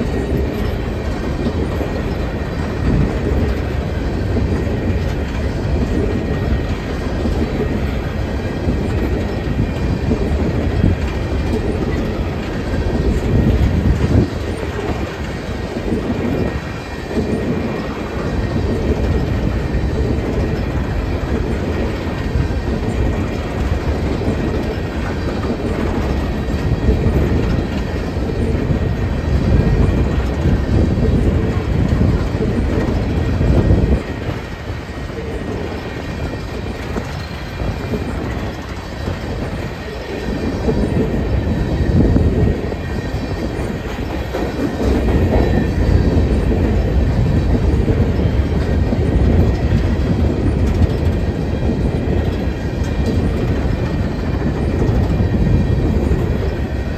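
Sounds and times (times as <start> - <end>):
train wheels rumbling on rails: 0.0 - 56.9
wheels clacking over rail joints: 0.0 - 56.9.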